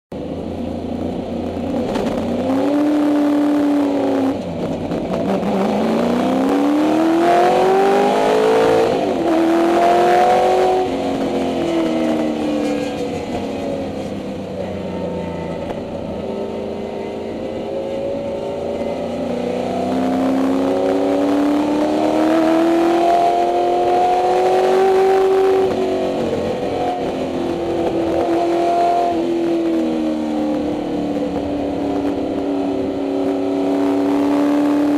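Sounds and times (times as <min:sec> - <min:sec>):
race car engine revving: 0:00.9 - 0:34.9.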